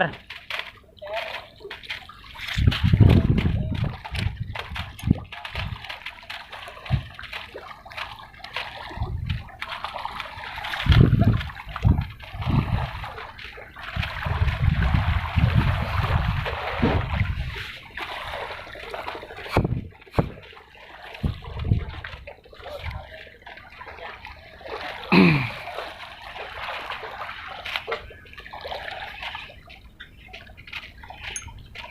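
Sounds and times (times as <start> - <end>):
water splashing and sloshing: 0.0 - 31.9.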